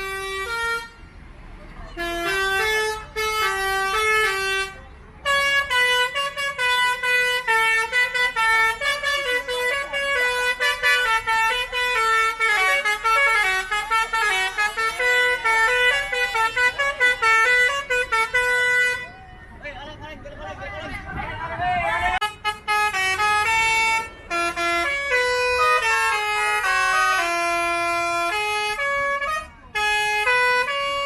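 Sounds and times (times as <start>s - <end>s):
musical air horn playing a tune: 0.0s - 1.0s, 2.0s - 19.1s, 22.2s - 31.0s.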